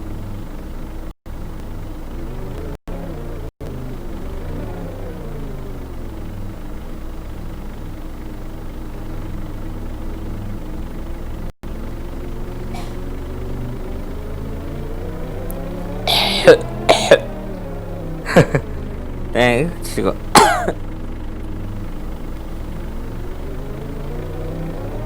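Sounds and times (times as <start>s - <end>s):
low rumble of running vehicle: 0.0s - 25.0s.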